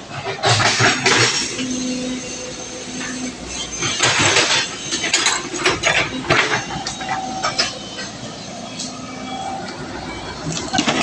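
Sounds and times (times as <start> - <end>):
excavator clanks and crashes: 0.0 - 2.4, 3.0 - 9.1, 10.4 - 11.0.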